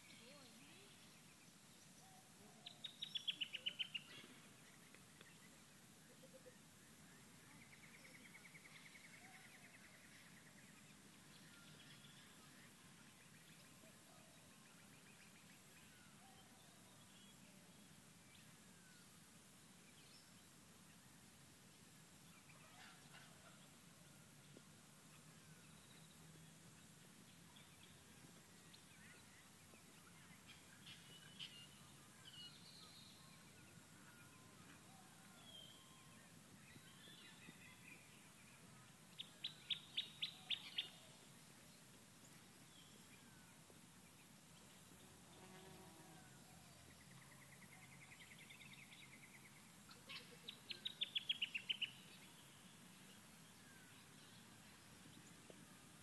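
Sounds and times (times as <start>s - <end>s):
wild birds chirping: 0.0s - 56.0s.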